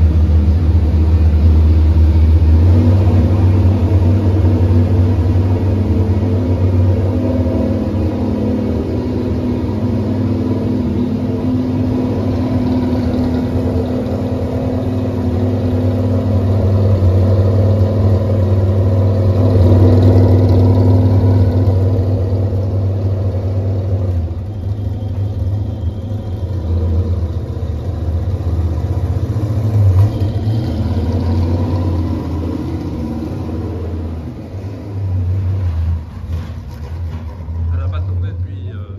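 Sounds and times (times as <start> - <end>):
car engine rumbling: 0.0 - 38.9.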